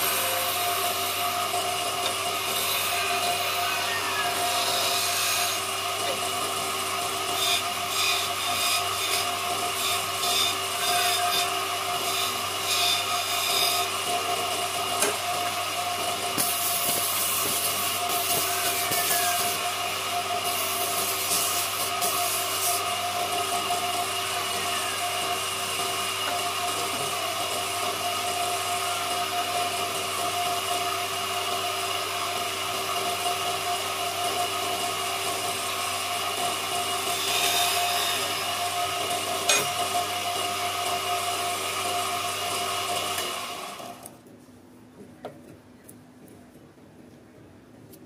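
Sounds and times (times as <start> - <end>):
wood lathe motor whine: 0.0 - 44.1.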